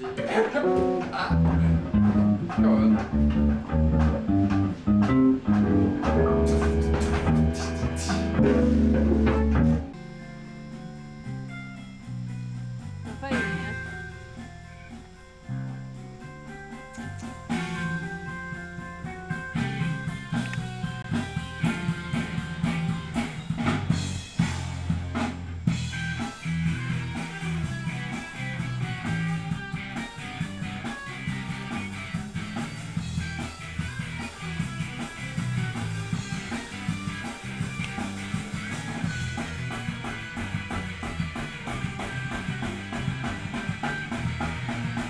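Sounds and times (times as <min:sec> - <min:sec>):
drum kit and cymbals: 0:00.0 - 0:45.0
electric bass guitar line: 0:00.0 - 0:45.0
electric guitar: 0:00.0 - 0:45.0
ska punk band music: 0:00.0 - 0:45.0.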